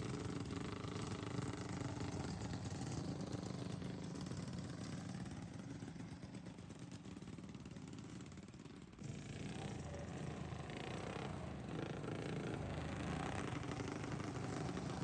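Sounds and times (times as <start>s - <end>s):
lawnmower engine running: 0.1s - 15.0s.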